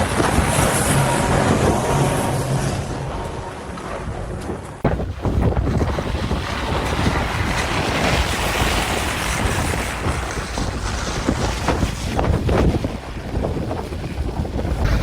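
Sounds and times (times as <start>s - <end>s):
blizzard wind buffeting microphone: 0.0s - 15.0s.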